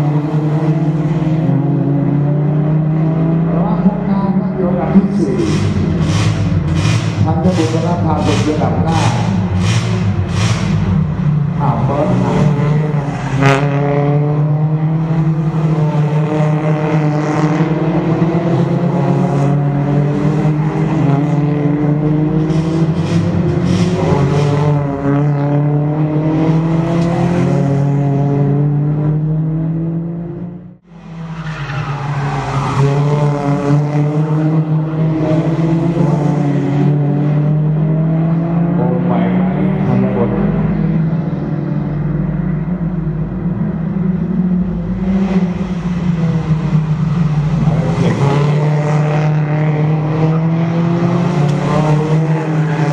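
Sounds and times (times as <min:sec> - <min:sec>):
race car engines accelerating: 0:00.0 - 0:52.9.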